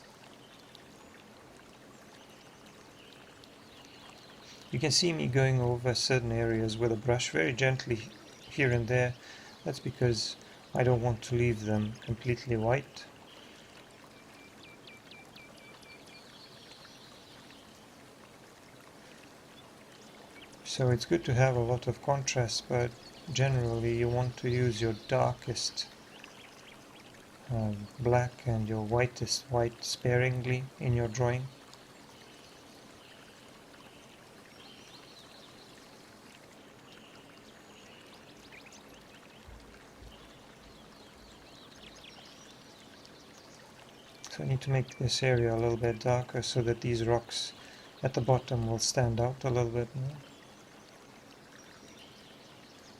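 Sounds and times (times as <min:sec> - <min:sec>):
faint background hiss: 0:00.0 - 0:52.9
faint rushing water: 0:00.0 - 0:52.9.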